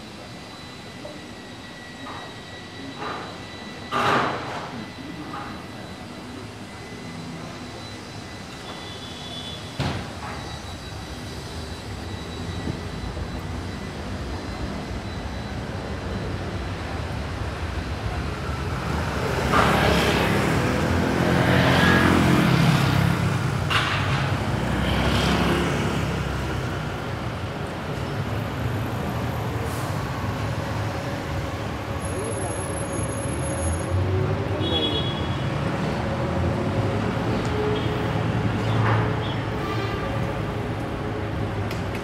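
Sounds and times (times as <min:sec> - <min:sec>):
street traffic: 0:00.0 - 0:42.0.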